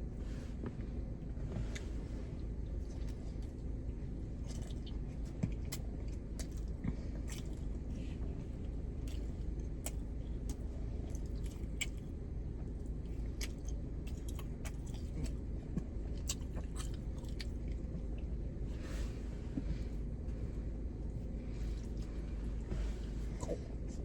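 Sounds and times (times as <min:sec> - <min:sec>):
low hum: 0:00.0 - 0:24.0
person chewing food: 0:04.4 - 0:24.0.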